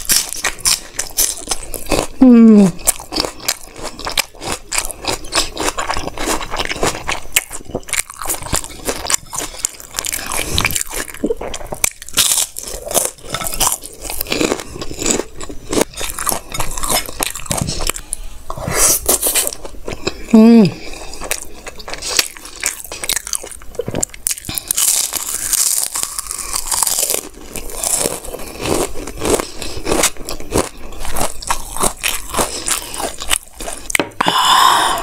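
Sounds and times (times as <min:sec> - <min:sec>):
chewing and lip-smacking: 0:00.0 - 0:02.2, 0:02.8 - 0:18.2, 0:18.8 - 0:34.2.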